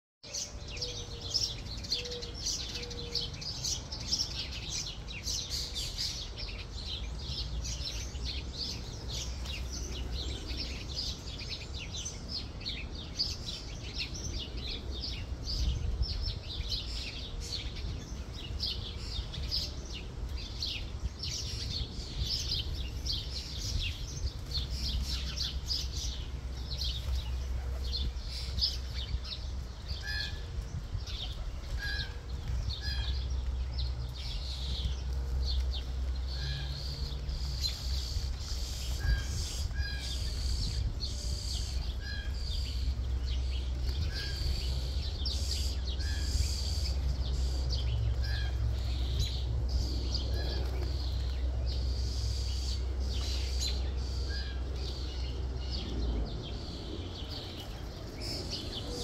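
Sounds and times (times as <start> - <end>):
songbirds chirping: 0.2 - 59.0.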